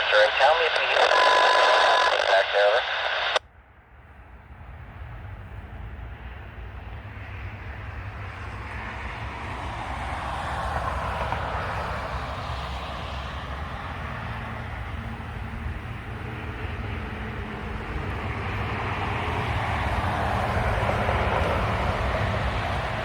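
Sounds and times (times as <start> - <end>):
rushing noise of passing vehicle: 4.4 - 23.0.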